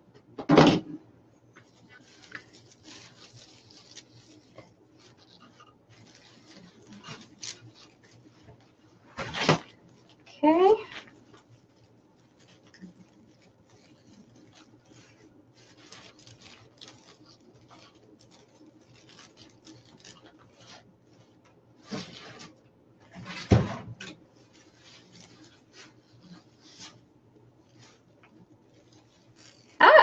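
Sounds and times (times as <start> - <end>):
mesh and burlap rustling: 1.4 - 30.0.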